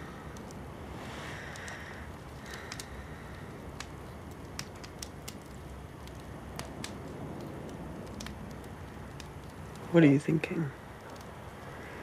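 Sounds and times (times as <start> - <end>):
faint crackles and clicks: 0.0 - 12.0
low background rumble: 0.0 - 12.0.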